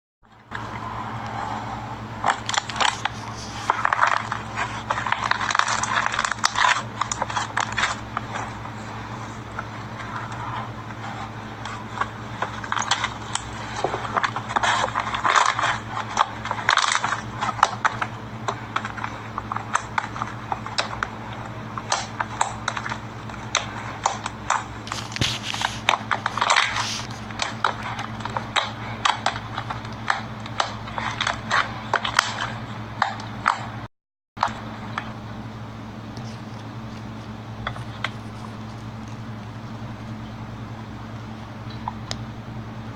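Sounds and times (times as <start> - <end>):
steady low hum: 0.2 - 42.9.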